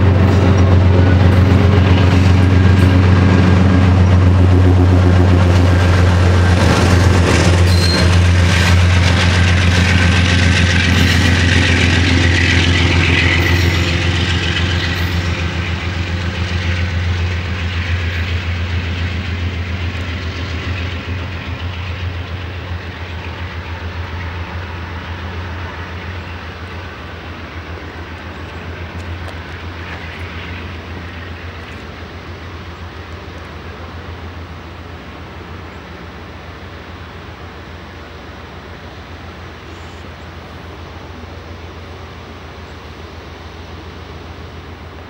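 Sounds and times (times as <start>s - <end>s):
diesel locomotive engine drone: 0.0s - 45.0s
wheels rumbling on rails: 0.0s - 45.0s.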